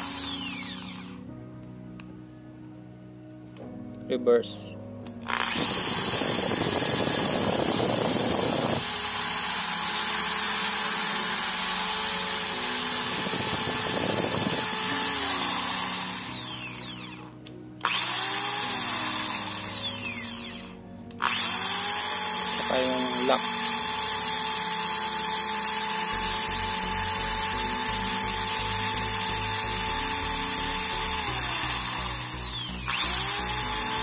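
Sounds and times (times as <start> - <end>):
impact drill motor whine: 0.0 - 1.3, 5.2 - 34.0.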